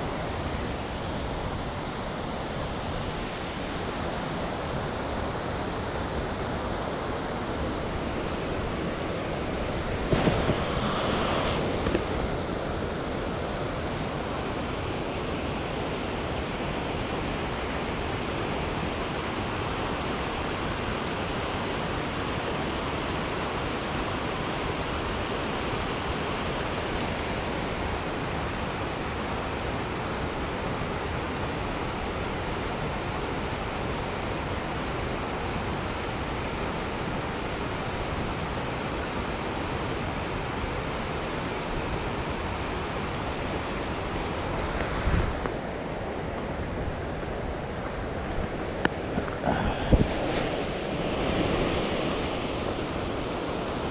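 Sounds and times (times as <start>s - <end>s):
mountain stream rushing: 0.0s - 53.9s.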